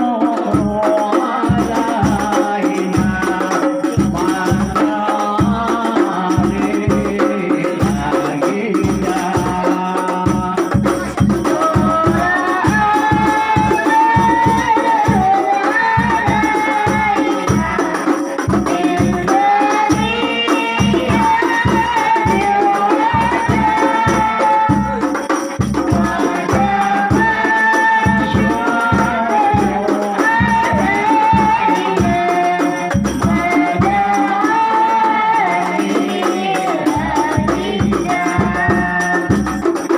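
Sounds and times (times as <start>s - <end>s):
frame drums with jingles: 0.0s - 39.9s
person singing devotional melody: 0.0s - 39.9s.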